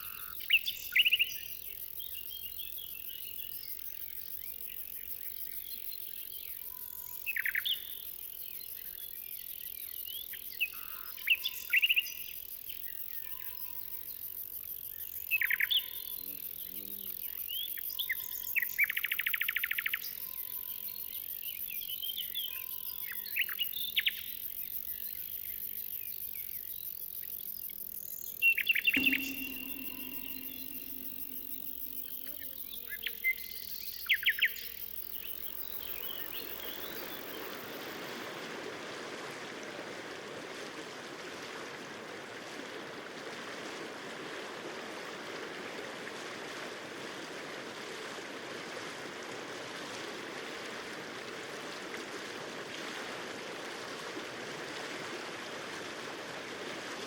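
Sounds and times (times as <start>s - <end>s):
insect chorus: 0.0s - 47.2s.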